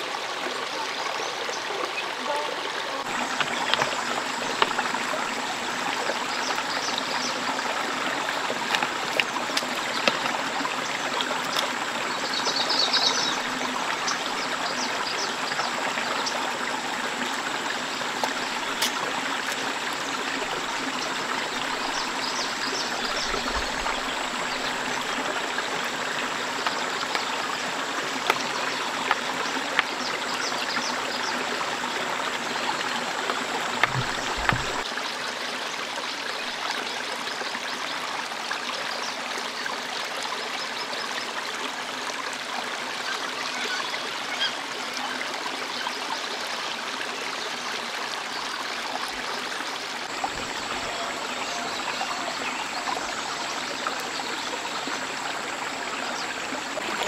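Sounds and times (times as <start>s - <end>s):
forest stream rushing: 0.0s - 57.0s.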